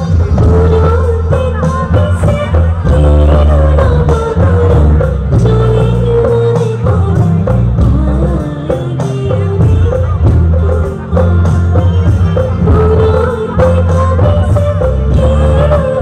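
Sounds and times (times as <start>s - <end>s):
band accompaniment with heavy bass: 0.0s - 16.0s
woman singing into a microphone: 0.0s - 16.0s.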